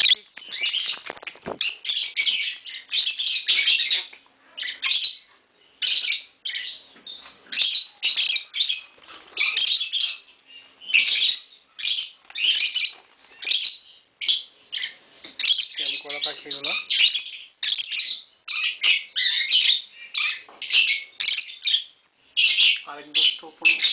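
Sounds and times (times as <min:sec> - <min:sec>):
lovebirds chirping: 0:00.0 - 0:23.9.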